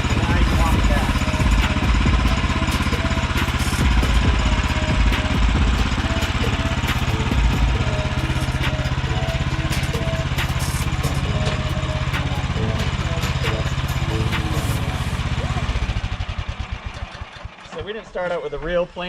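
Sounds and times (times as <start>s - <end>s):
small gas engine running: 0.0s - 18.1s.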